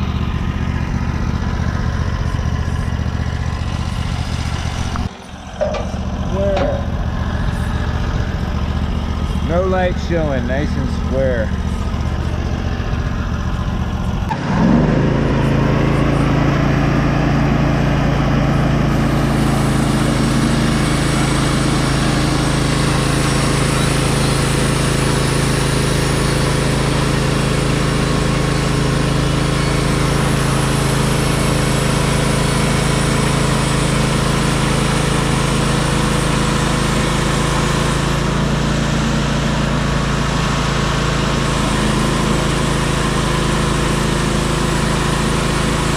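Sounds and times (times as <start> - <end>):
sawmill engine running: 0.0 - 45.9.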